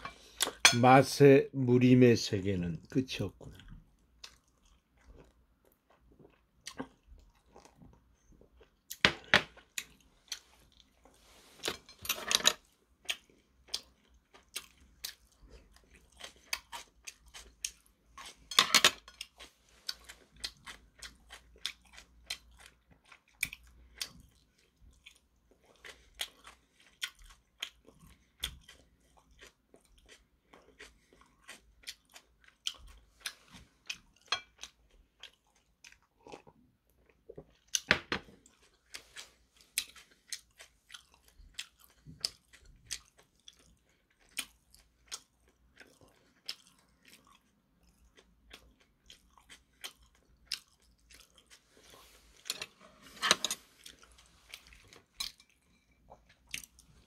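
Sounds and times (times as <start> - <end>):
man chewing: 0.0 - 0.6, 3.5 - 11.9, 12.6 - 57.0.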